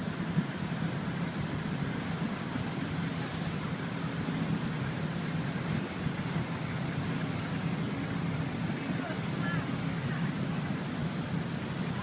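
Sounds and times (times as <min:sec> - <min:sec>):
boat engine hum: 0:00.0 - 0:12.0
rushing water noise: 0:00.0 - 0:12.0.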